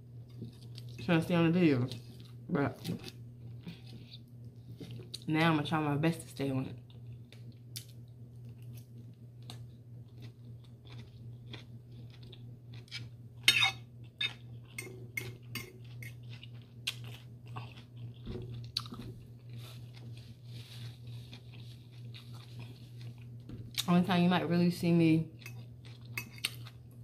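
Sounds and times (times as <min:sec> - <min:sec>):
chewing and crunching food: 0:00.0 - 0:05.3, 0:06.7 - 0:24.2, 0:24.9 - 0:27.0
steady low hum: 0:00.0 - 0:27.0.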